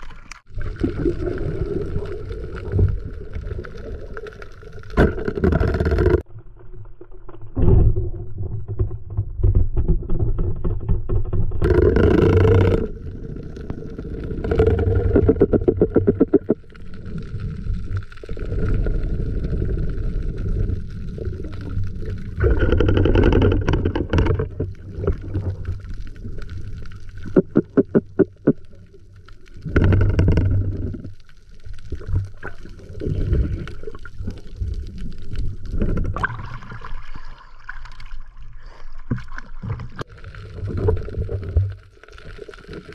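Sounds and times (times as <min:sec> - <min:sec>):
underwater water rushing and bubbling: 0:00.0 - 0:42.9.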